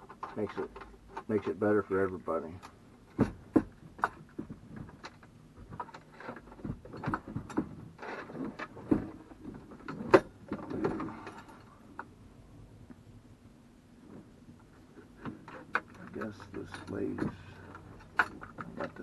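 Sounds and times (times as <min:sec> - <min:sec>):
clicks and knocks of handling: 0:00.0 - 0:12.1, 0:14.0 - 0:19.0.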